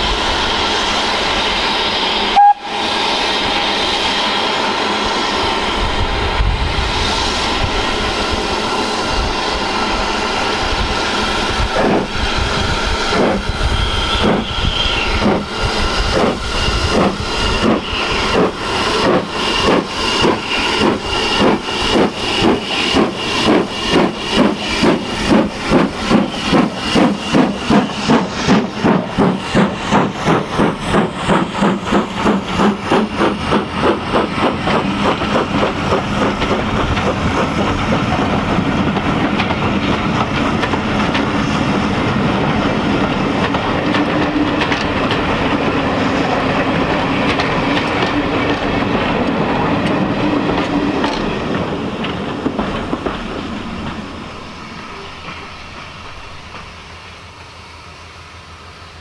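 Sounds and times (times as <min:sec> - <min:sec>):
steam locomotive exhaust beats: 0:00.0 - 0:59.0
train coaches rolling: 0:00.0 - 0:59.0.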